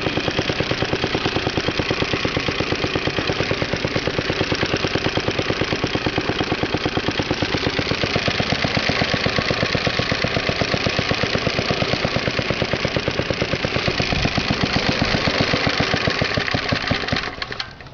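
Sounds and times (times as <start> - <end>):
lawnmower engine running: 0.0 - 17.9.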